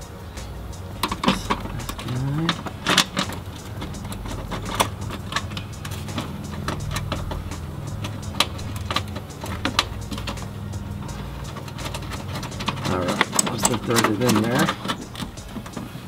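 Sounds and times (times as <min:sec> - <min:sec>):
steady low hum: 0:00.0 - 0:16.0
metal bolts clicking and knocking: 0:00.5 - 0:16.0.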